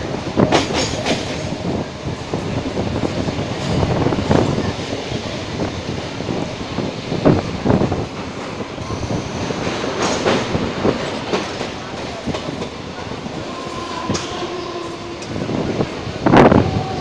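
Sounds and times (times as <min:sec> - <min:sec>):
train rumble and wind: 0:00.0 - 0:17.0.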